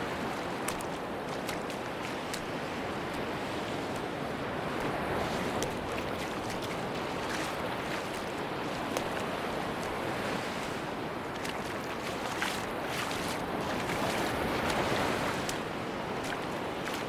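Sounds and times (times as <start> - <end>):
sea waves washing onto beach: 0.0 - 17.0.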